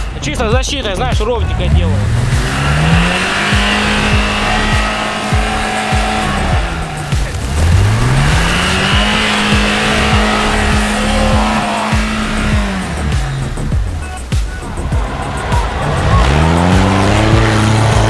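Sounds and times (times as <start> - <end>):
engine revving: 0.0 - 18.0
music with steady beat: 0.0 - 18.0.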